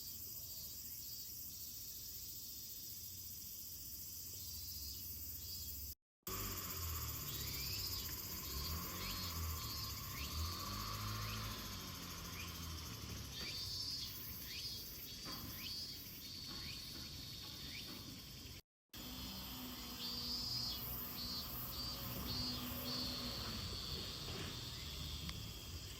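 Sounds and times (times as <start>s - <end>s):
crickets chirping: 0.0s - 25.9s.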